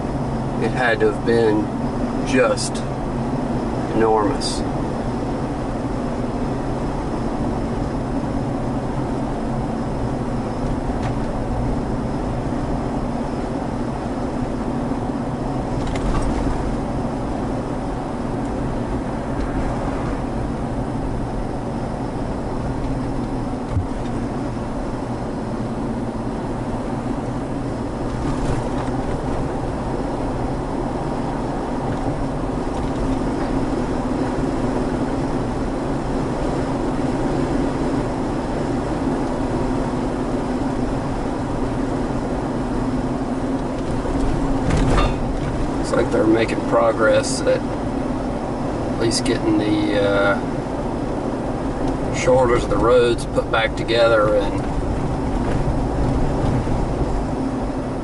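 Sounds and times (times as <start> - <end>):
car cabin road and engine drone: 0.0 - 58.0.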